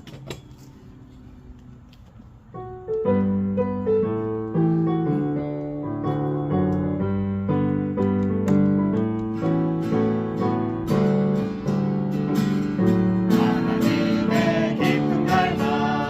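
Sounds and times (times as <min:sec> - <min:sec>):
piano hymn introduction: 0:02.6 - 0:16.0.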